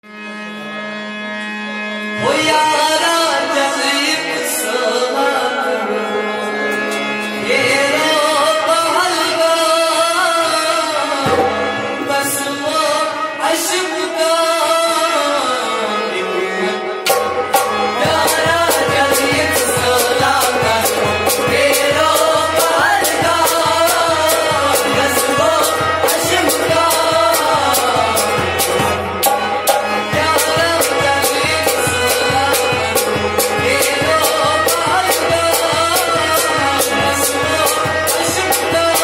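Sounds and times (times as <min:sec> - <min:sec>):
harmonium chord: 0:00.0 - 0:39.0
man singing: 0:02.2 - 0:39.0.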